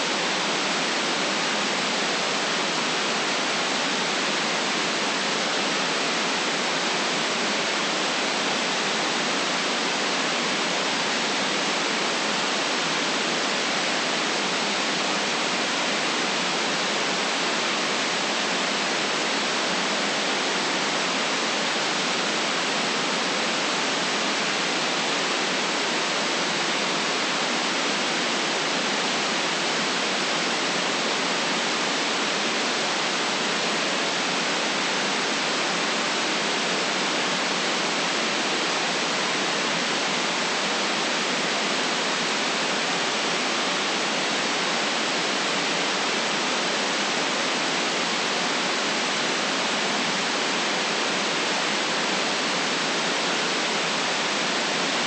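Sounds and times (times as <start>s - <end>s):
electronic white noise hiss: 0.0s - 55.0s.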